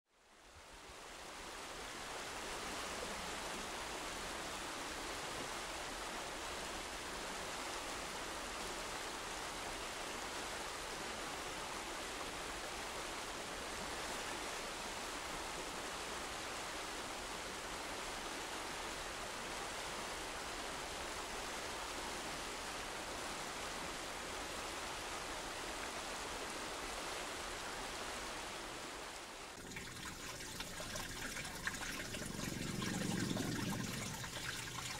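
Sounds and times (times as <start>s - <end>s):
river rushing over stones: 1.0s - 34.9s.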